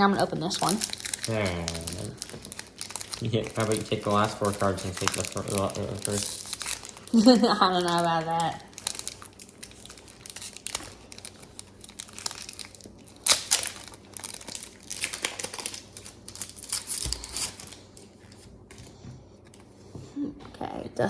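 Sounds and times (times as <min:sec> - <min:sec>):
foil wrapper tearing and crinkling: 0:00.2 - 0:18.4.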